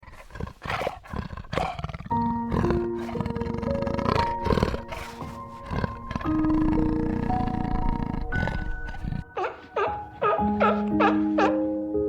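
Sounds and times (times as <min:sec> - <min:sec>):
harsh animal calls: 0:00.0 - 0:11.5
music of held notes: 0:02.1 - 0:12.0.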